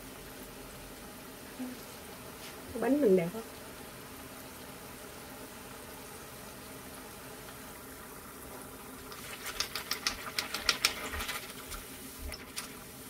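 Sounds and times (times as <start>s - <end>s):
hot oil crackling and popping: 0.0s - 13.0s.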